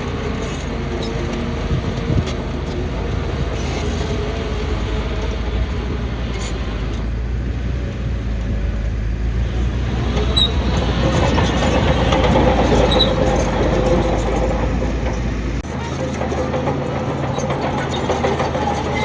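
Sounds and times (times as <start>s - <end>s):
diesel machinery rumbling: 0.0s - 19.0s.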